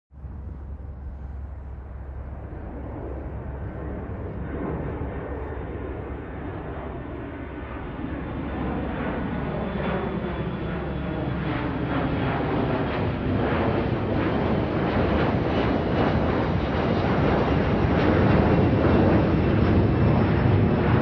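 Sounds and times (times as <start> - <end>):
aircraft engine drone: 0.2 - 21.0.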